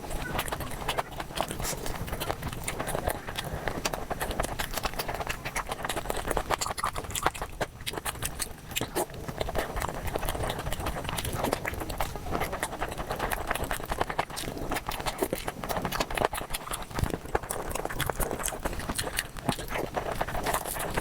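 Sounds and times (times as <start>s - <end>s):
sped-up chewing clicks and crunches: 0.0s - 21.0s.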